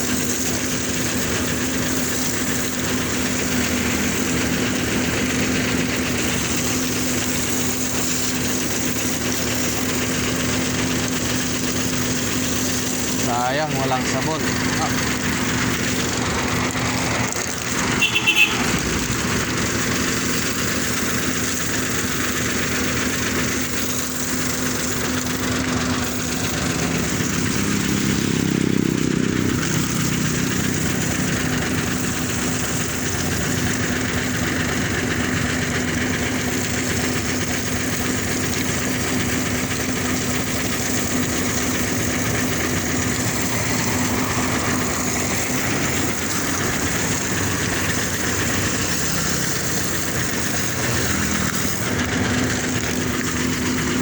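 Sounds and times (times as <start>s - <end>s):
broad rushing hiss: 0.0s - 54.0s
engine running steadily: 0.0s - 54.0s.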